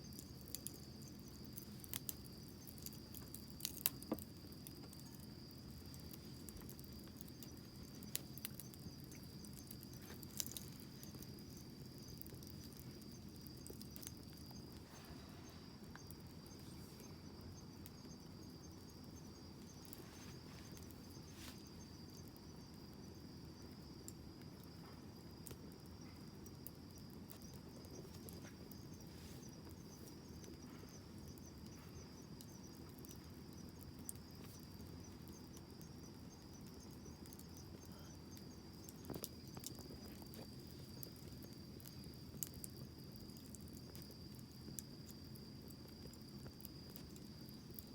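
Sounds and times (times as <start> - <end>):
insect trill: 0.0 - 47.9
wood fire crackling: 0.0 - 47.9.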